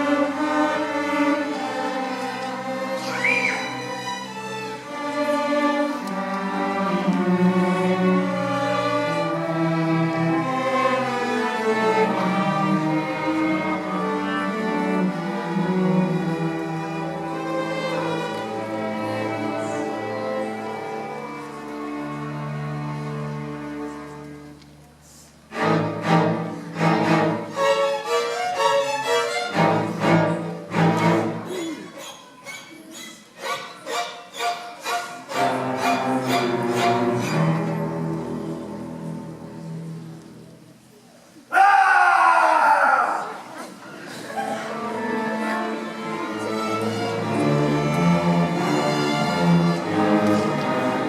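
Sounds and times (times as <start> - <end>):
string orchestra playing: 0.0 - 41.0, 43.4 - 51.0.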